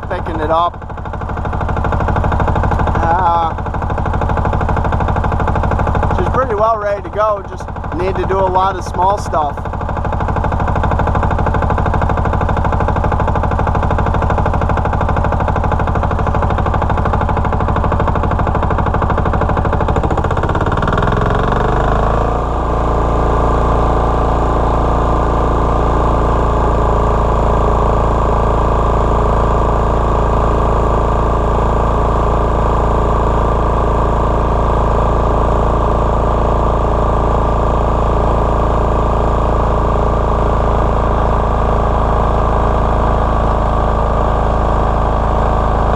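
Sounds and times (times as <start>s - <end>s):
diesel generator engine running: 0.0s - 45.9s.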